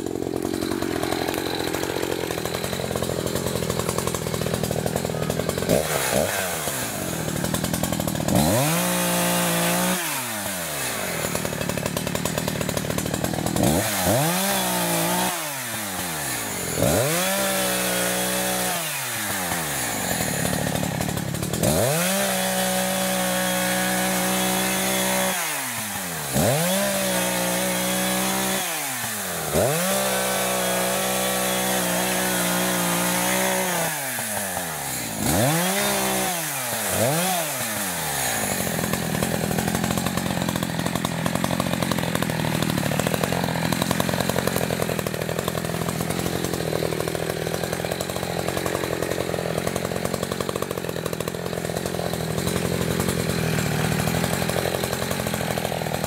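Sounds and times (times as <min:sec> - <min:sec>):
chainsaw revving and cutting: 0:00.0 - 0:56.0.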